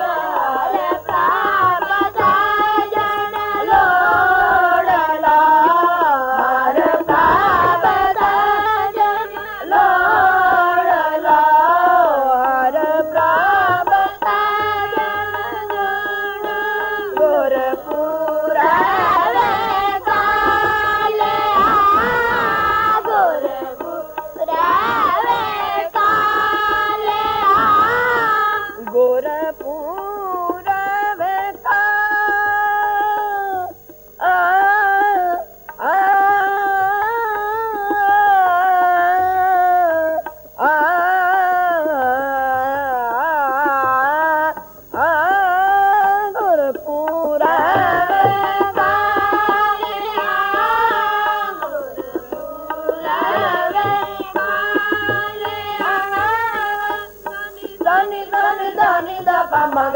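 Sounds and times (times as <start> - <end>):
boys singing a hymn: 0.0 - 59.9
harmonium: 0.0 - 59.9.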